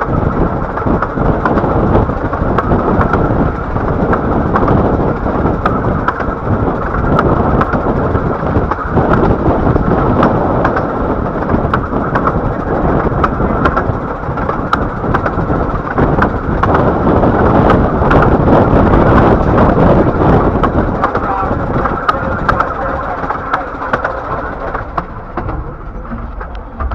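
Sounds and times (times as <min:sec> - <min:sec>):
sharp irregular clicks: 0:00.0 - 0:26.9
train wheels and carriage rumbling: 0:00.0 - 0:26.9.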